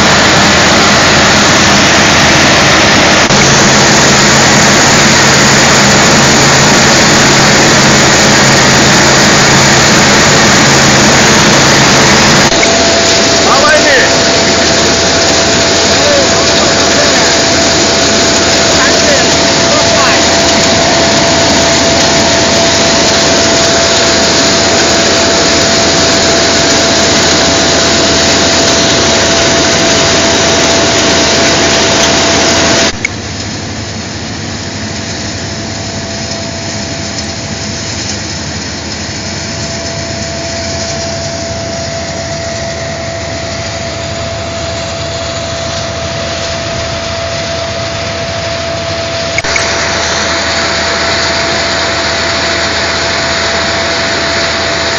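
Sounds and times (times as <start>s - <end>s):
coffee-cleaning machinery: 0.0s - 54.9s
tractor diesel engine running: 0.0s - 54.9s.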